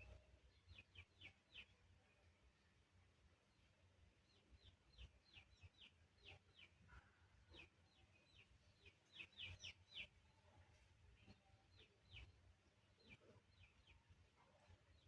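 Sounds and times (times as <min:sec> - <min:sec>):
birds chirping: 0:00.0 - 0:02.8, 0:03.4 - 0:15.0.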